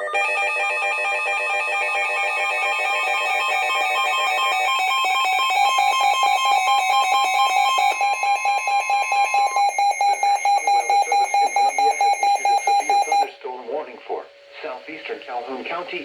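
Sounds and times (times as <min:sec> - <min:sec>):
shrill electronic alert beeps: 0:00.0 - 0:13.3.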